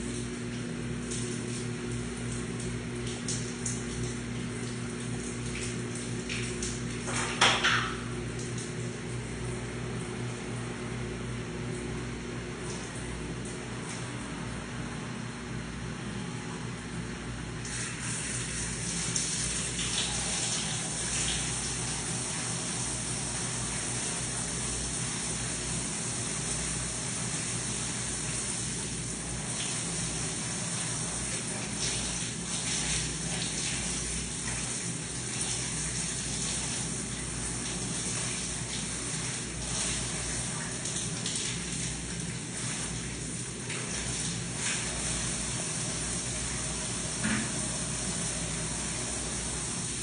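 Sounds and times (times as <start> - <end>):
water running from shower head: 0.0 - 9.0, 17.6 - 50.0.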